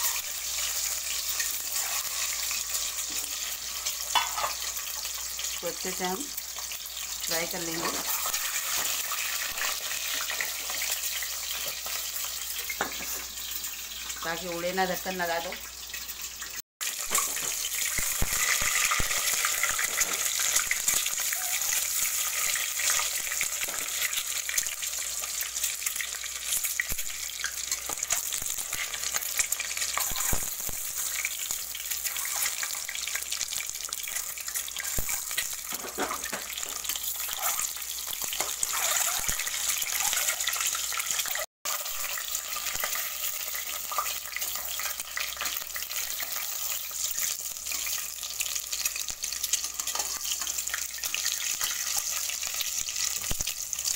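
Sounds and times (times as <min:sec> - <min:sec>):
metal spatula in pan: 0:00.0 - 0:05.2, 0:07.5 - 0:11.9, 0:16.8 - 0:24.8, 0:25.7 - 0:33.2, 0:34.1 - 0:48.1, 0:48.8 - 0:53.5
eggs frying in hot oil: 0:00.0 - 0:53.9.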